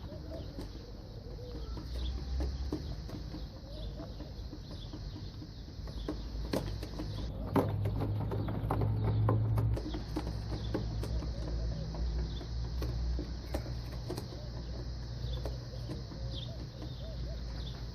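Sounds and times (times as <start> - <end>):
birds calling softly: 0.0 - 17.9
sharp clicks and knocks: 0.1 - 17.9.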